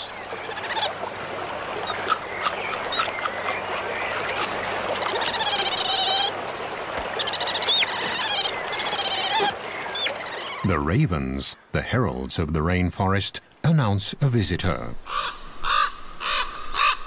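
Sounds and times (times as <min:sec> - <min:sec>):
ravens croaking: 0:00.0 - 0:12.0, 0:14.7 - 0:17.0
forest ambience: 0:00.0 - 0:17.0.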